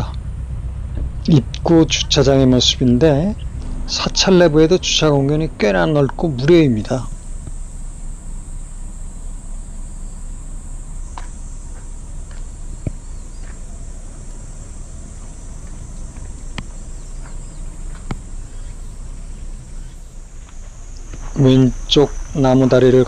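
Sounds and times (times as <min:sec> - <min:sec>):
low rumble: 0:00.0 - 0:22.8
high-pitched insect drone: 0:00.0 - 0:23.0.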